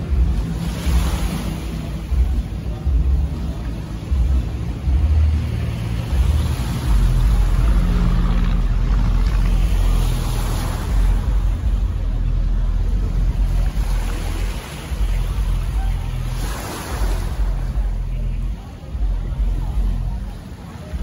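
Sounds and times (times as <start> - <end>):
heavy low rumble: 0.0 - 21.0
sea wash: 0.0 - 21.0.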